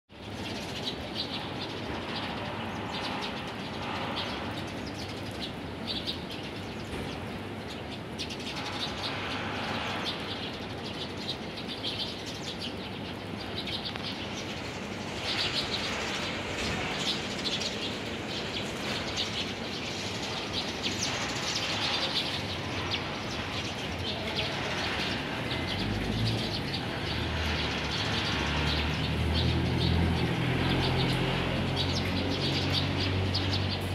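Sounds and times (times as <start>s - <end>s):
sparrows chirping: 0.1s - 33.9s.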